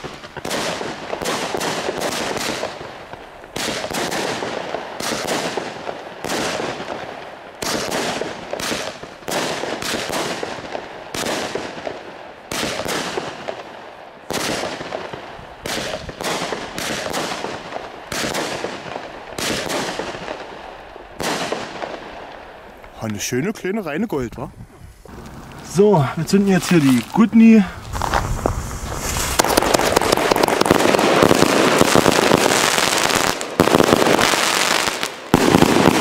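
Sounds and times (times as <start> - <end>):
firework bangs: 0.0 - 23.0, 27.8 - 36.0
firework crackle: 0.0 - 23.0, 26.6 - 36.0.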